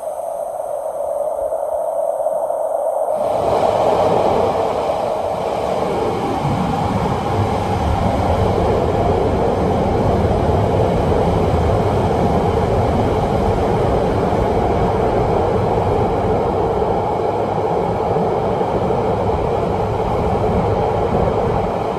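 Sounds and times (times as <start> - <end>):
train rumbling on rails: 0.0 - 21.9.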